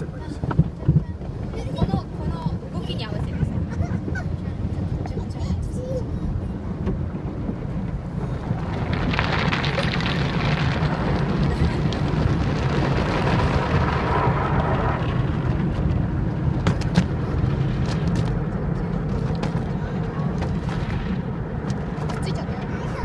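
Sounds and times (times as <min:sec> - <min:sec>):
car wash machinery rumble: 0:00.0 - 0:23.0.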